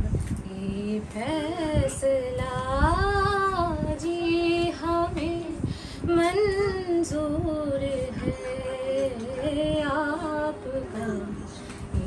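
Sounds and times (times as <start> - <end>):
woman singing unaccompanied: 0.4 - 12.0.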